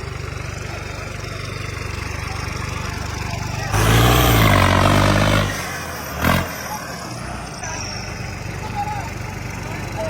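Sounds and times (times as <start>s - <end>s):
diesel engine idling and revving: 0.0s - 10.0s.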